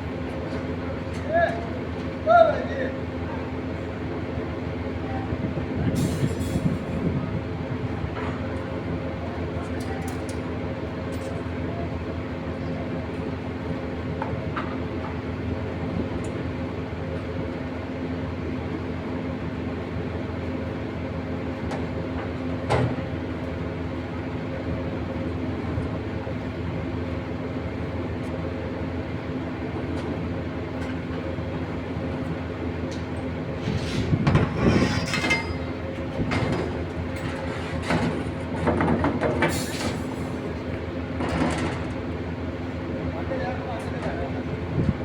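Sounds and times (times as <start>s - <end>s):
mechanical drone with low hum: 0.0s - 39.4s, 40.3s - 45.0s.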